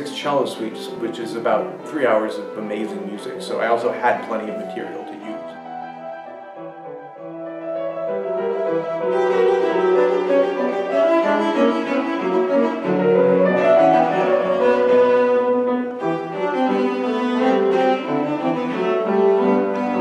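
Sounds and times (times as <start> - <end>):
cello playing classical piece: 0.0 - 20.0.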